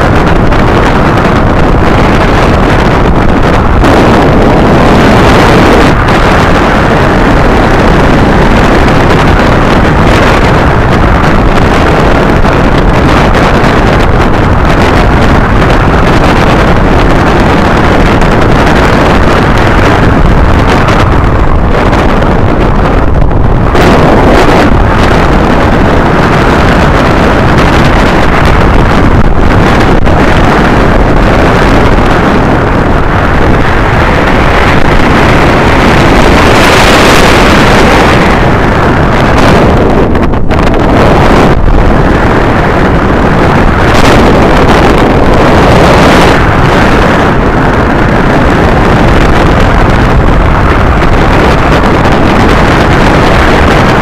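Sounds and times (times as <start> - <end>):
wind roar on microphone: 0.0 - 54.0.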